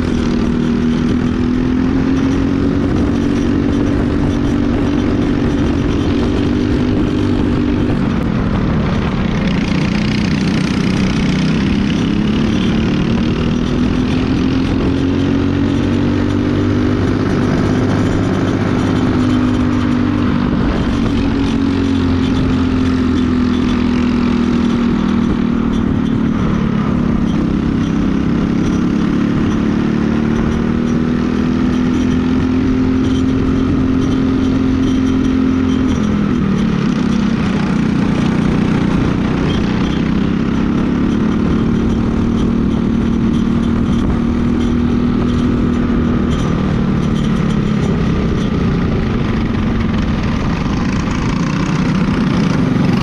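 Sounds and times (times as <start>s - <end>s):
kart engine racing: 0.0s - 53.0s.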